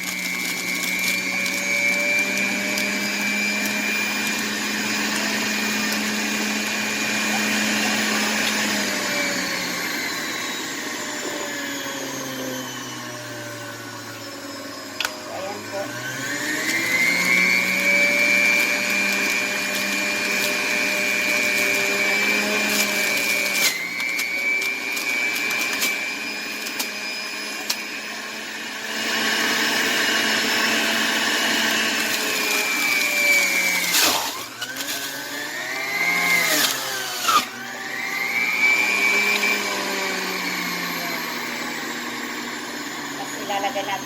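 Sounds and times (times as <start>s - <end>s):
juicer motor whining: 0.0s - 44.0s.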